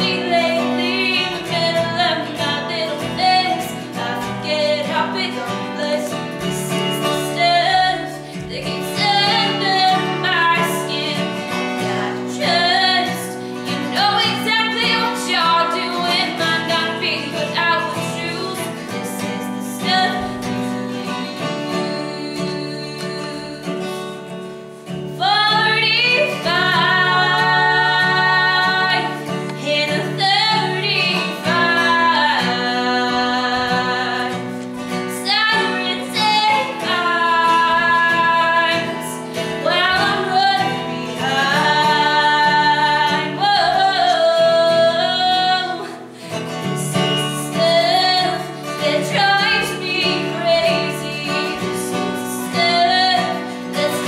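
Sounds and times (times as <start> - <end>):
acoustic guitar: 0.0 - 54.0
woman singing: 0.0 - 54.0.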